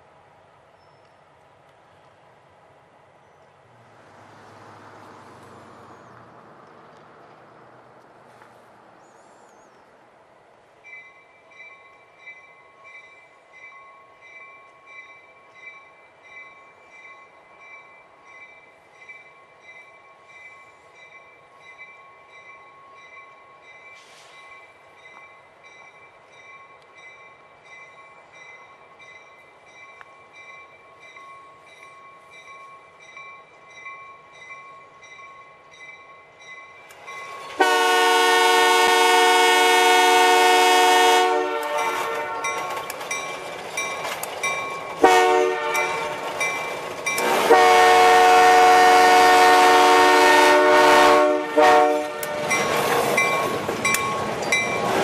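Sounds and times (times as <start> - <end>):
crossing warning bell ringing: 10.8 - 55.0.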